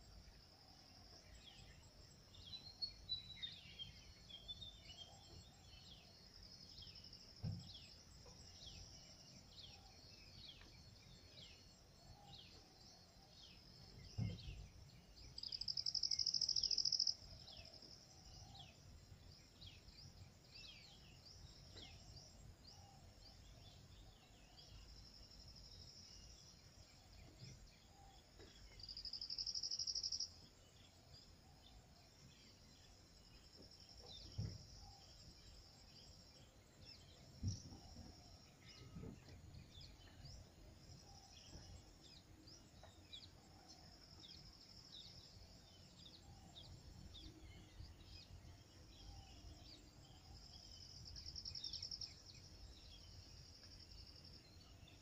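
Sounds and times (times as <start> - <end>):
insects buzzing: 5.6 - 55.0.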